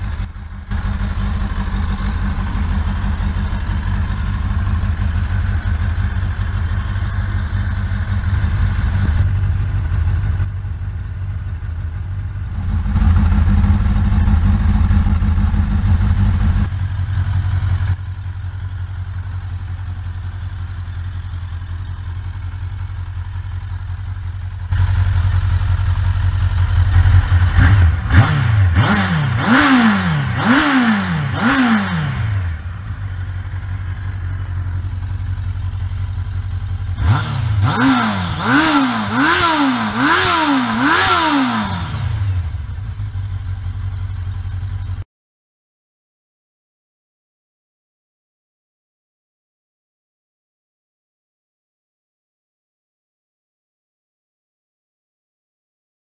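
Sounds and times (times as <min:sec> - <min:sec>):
motorcycle engine idling: 0:00.0 - 0:45.0
motorcycle throttle blips: 0:00.0 - 0:45.0.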